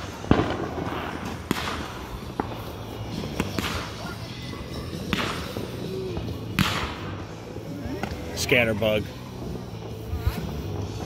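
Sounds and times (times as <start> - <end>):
fireworks cracking and popping: 0.0 - 11.0
fireworks crackling: 0.0 - 11.0.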